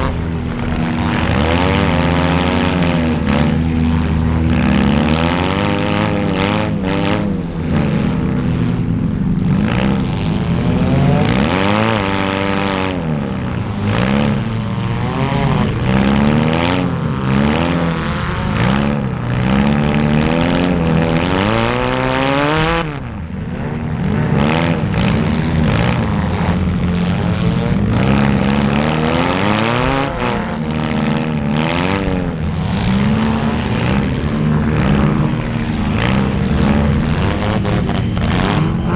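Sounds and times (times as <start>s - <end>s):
car engines revving hard: 0.0s - 38.9s.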